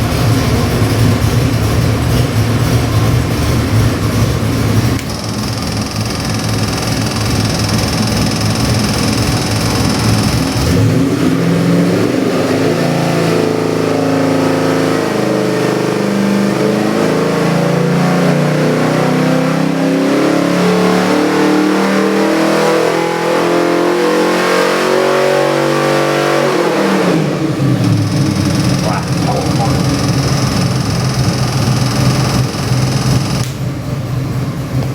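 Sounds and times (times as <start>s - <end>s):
engine revving under load: 0.0s - 34.1s.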